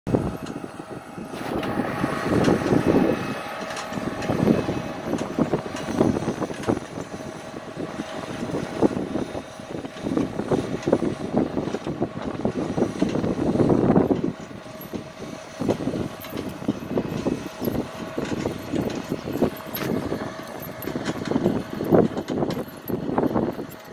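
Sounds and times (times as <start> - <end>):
tractor engine running: 0.1 - 23.9.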